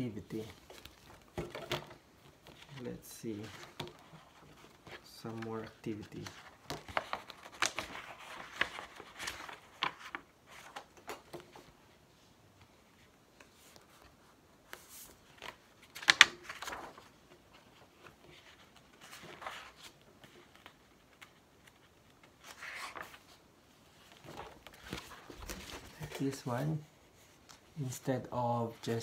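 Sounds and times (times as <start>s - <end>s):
book pages rustling: 0.0s - 27.9s.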